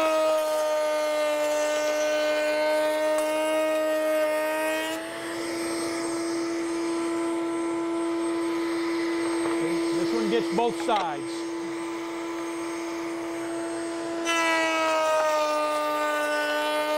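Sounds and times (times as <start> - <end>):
router whining: 0.0 - 16.9.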